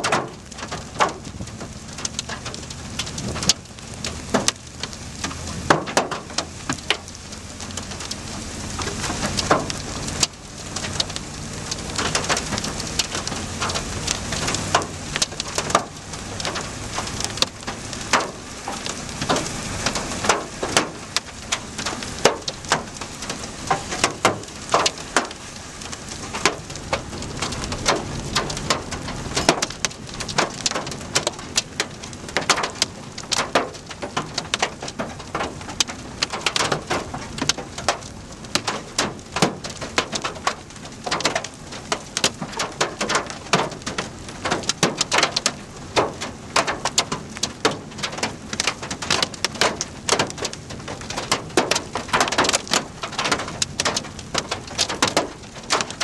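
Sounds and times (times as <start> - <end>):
heavy rain pelting down: 0.0 - 56.0.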